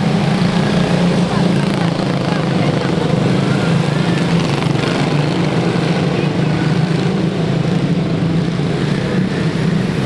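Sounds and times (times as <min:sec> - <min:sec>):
small race car engines droning: 0:00.0 - 0:10.0.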